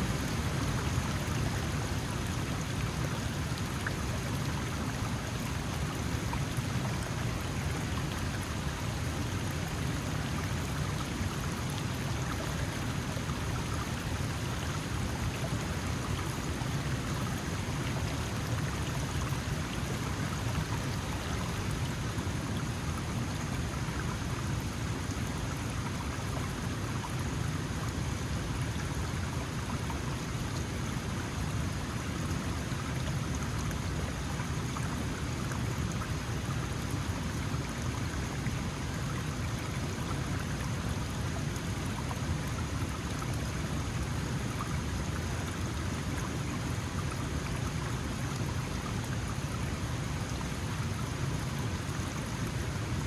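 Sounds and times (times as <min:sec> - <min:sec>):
stream rushing and babbling: 0:00.0 - 0:53.0.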